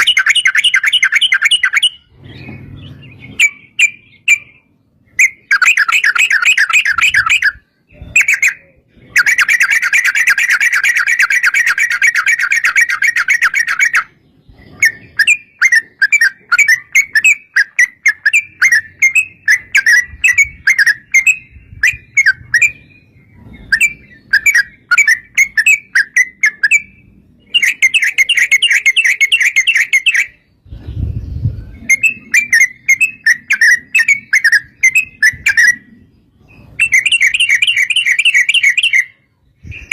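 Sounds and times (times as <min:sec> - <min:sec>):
bird trilling song: 0:00.0 - 0:39.9.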